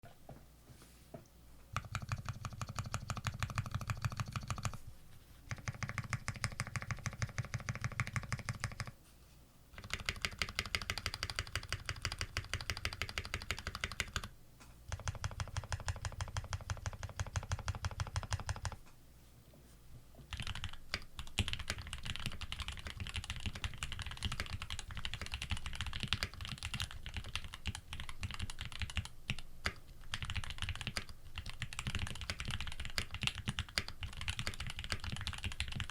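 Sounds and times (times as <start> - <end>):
mechanical keyboard typing: 1.8 - 4.8, 5.5 - 8.9, 9.8 - 14.3, 14.9 - 18.8, 20.3 - 35.9.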